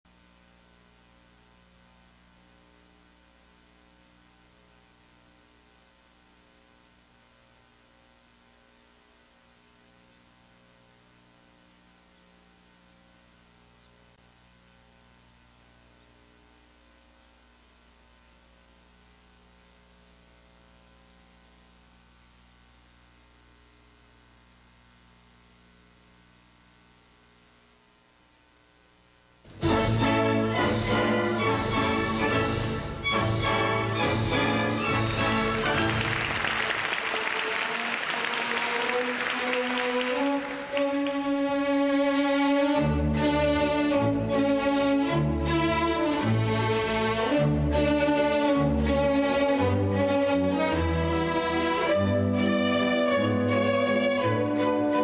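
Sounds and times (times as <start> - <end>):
faint mains hum: 0.0 - 55.0.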